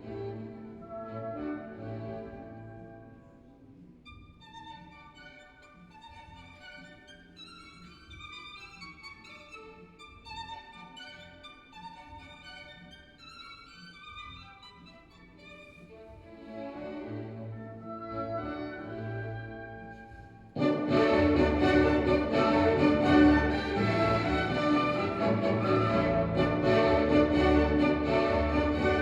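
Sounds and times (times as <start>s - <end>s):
classical music on hi-fi: 0.0s - 29.0s.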